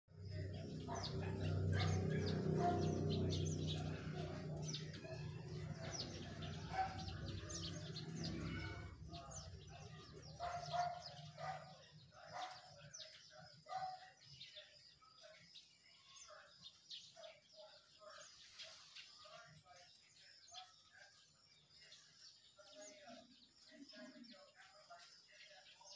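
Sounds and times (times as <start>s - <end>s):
small birds chirping: 0.1s - 25.9s.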